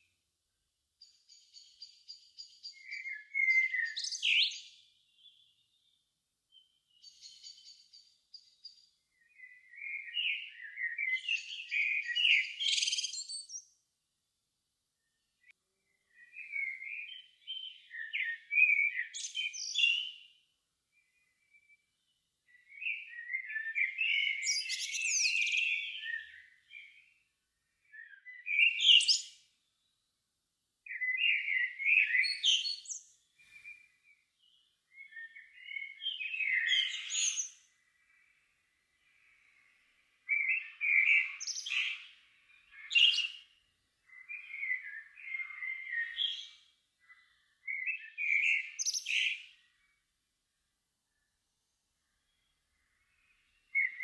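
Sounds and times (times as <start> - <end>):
songbird singing: 1.0 - 13.8, 15.0 - 30.2, 30.8 - 54.0.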